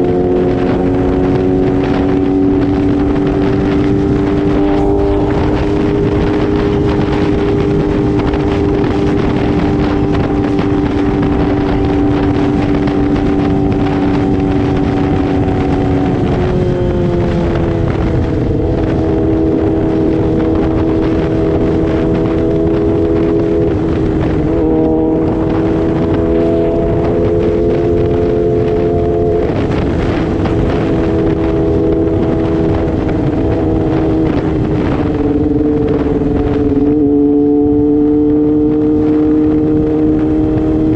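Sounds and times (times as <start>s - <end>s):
motorcycle engine revving: 0.0s - 40.9s
wind rush on microphone: 0.0s - 40.9s.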